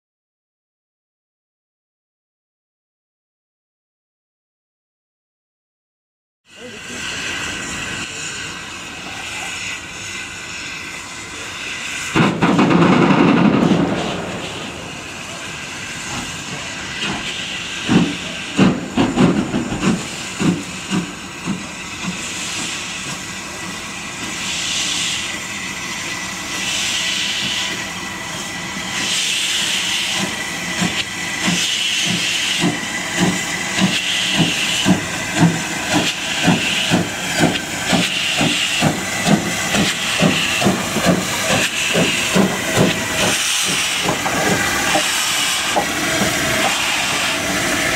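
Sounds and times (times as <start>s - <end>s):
steam blast: 6.6s - 47.9s
steam locomotive exhaust chuffs: 6.6s - 47.9s.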